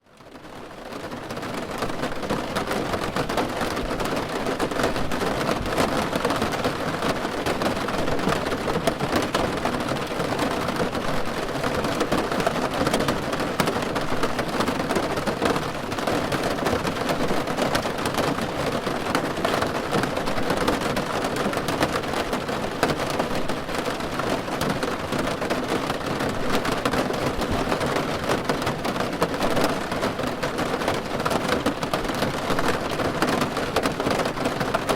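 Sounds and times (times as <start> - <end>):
rain on a car roof: 0.0 - 34.9.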